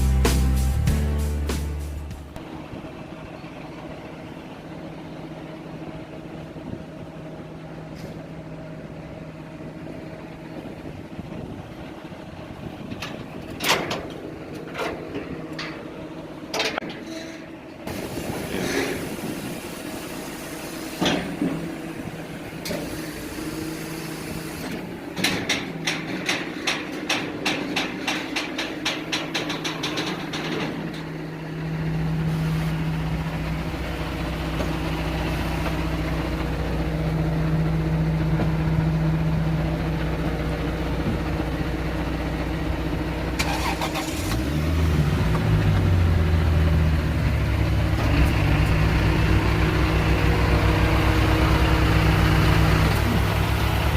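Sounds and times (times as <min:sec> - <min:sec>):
vehicle engine running: 0:00.0 - 0:16.6, 0:17.5 - 0:53.9.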